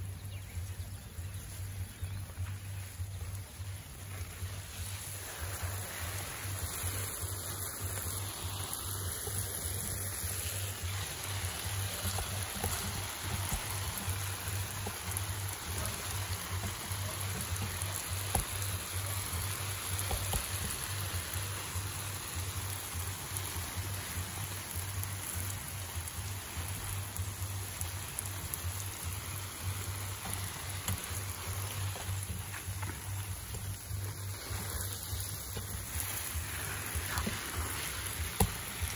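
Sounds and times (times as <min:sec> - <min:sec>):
hose spray hissing on foliage: 0:00.0 - 0:38.9.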